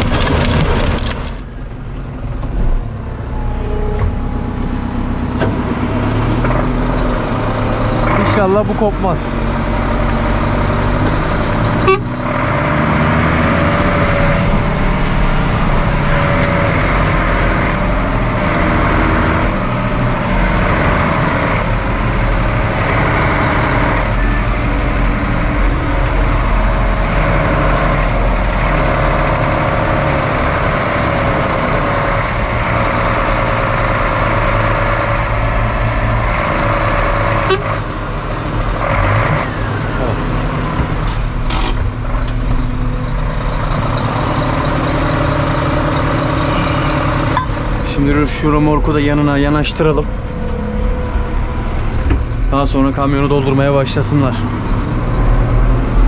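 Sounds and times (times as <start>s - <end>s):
tractor diesel engine running hard: 0.0s - 56.0s.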